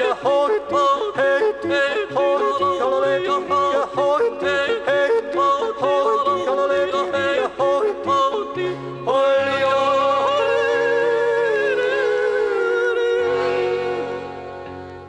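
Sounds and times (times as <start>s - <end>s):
men yodeling: 0.0s - 14.6s.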